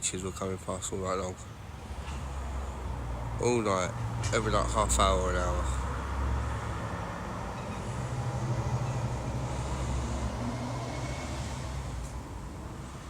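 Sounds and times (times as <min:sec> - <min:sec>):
large vehicle passing: 0:01.7 - 0:13.0.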